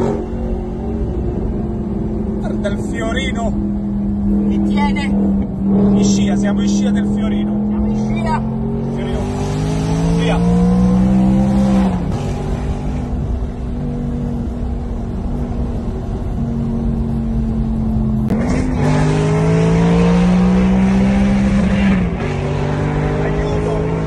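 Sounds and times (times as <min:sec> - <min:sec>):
car engine pulling through gears: 0:00.0 - 0:24.0.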